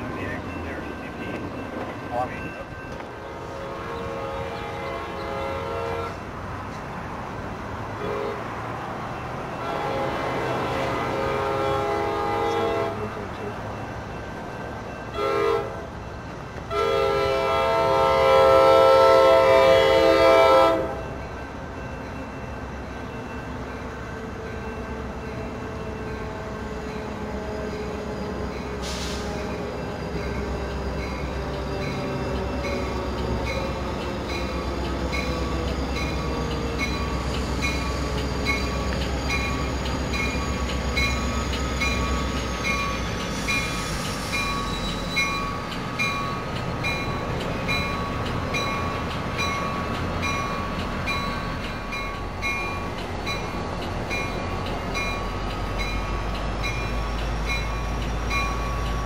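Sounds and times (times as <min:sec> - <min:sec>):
crossing warning bells dinging: 0:00.0 - 0:59.0
diesel locomotive rumbling: 0:00.0 - 0:59.0.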